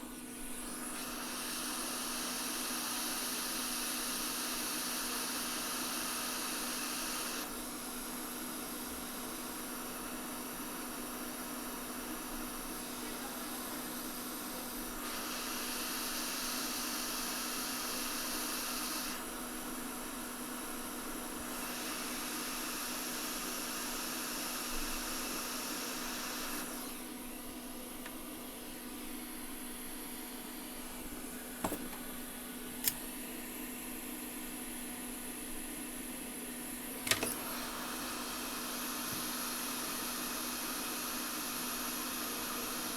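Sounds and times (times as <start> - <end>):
hot air station blowing: 0.0 - 42.9.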